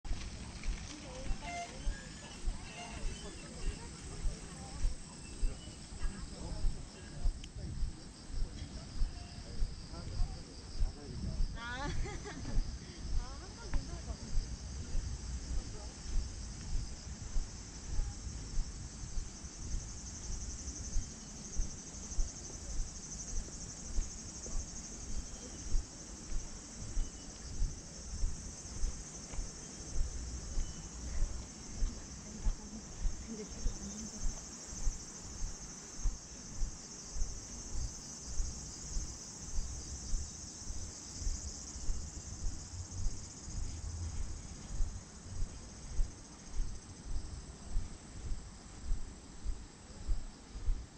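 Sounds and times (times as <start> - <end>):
footsteps on paved path: 0.0 - 50.8
crickets and insects chirping: 0.0 - 50.9.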